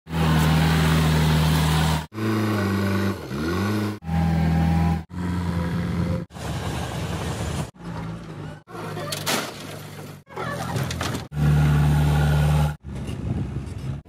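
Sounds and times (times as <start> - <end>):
diesel engines running: 0.1 - 14.0.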